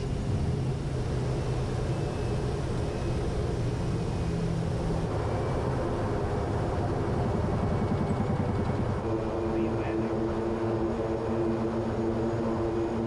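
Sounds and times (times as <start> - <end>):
low rumble of rolling airplane: 0.0 - 13.0
turboprop engine droning: 0.0 - 13.0.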